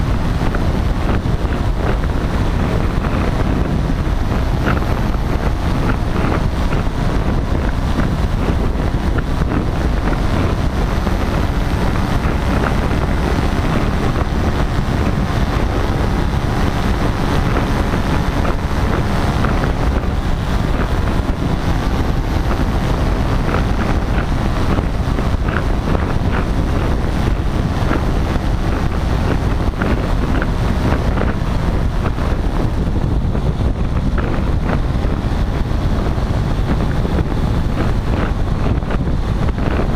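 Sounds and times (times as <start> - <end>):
paramotor engine and propeller: 0.0 - 39.9
wind noise on microphone: 0.0 - 39.9.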